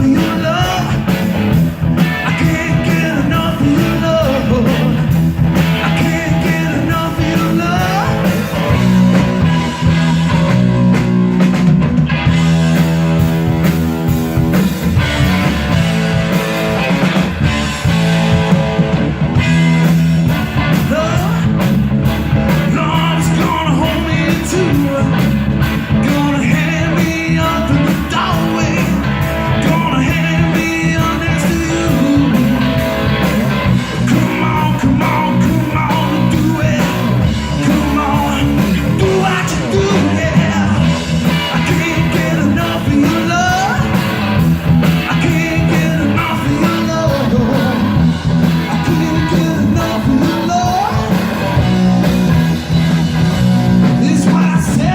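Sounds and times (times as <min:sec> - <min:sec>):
rock music: 0:00.0 - 0:54.9.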